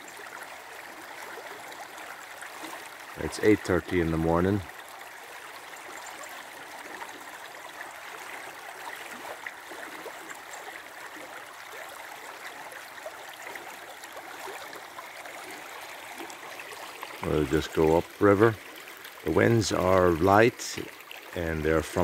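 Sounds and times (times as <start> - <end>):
river water babbling over stones: 0.0 - 22.0.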